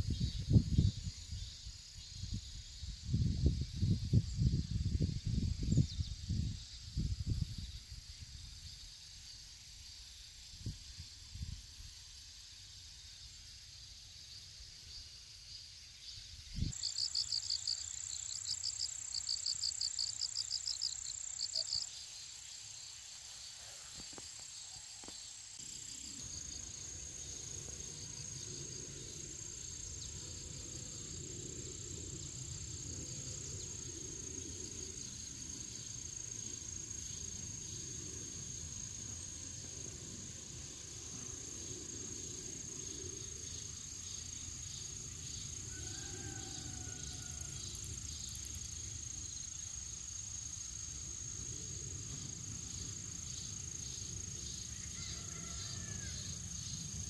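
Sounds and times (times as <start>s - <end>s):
crickets chirping: 0.0s - 57.0s
high-pitched insect trill: 0.0s - 57.0s.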